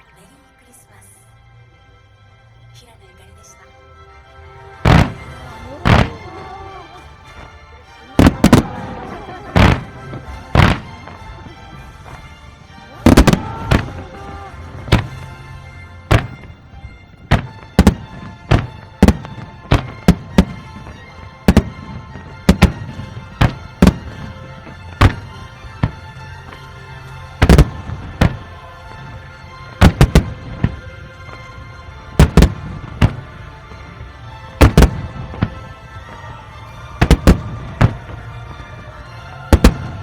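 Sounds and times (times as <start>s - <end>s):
background music: 0.0s - 40.0s
fireworks bursting: 4.7s - 40.0s.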